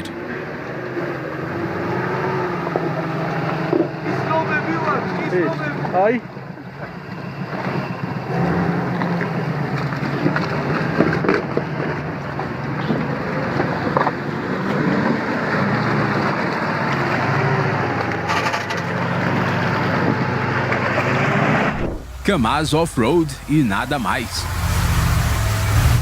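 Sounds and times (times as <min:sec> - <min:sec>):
truck engine under load: 0:01.4 - 0:26.0.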